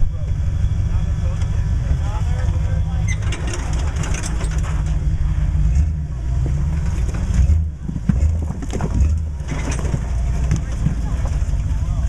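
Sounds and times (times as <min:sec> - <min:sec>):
buggy engine running low: 0:00.0 - 0:12.0.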